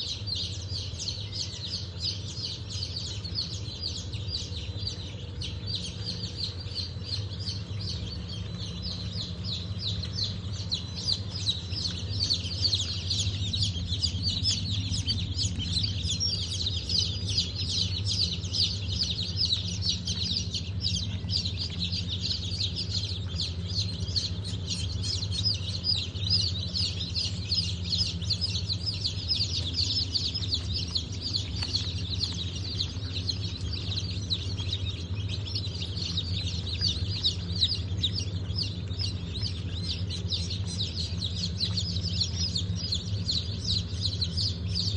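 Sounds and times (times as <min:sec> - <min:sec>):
chicks and ducklings peeping: 0:00.0 - 0:44.9
steady low hum: 0:00.0 - 0:44.9.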